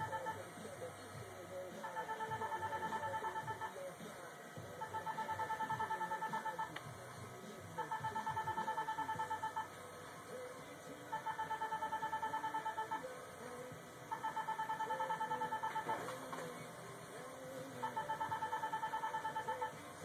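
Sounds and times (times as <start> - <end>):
rapid high-pitched beeps: 0.0 - 16.3, 17.3 - 20.0.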